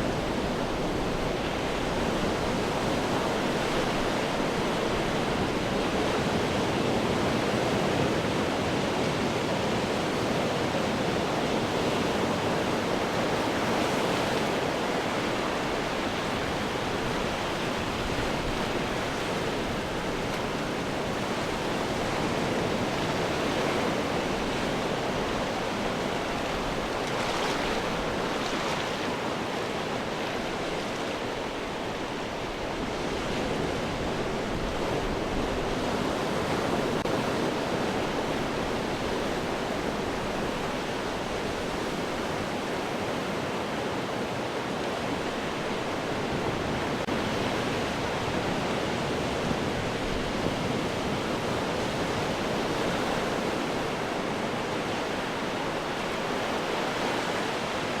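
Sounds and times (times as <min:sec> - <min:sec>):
ocean surf against rocks: 0:00.0 - 0:58.0.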